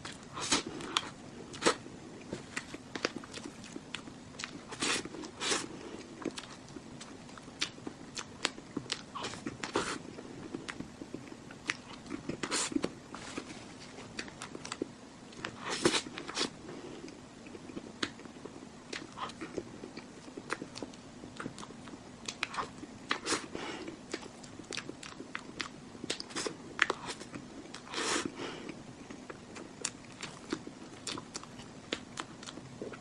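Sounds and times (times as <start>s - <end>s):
mouth chewing cake: 0.0s - 33.0s.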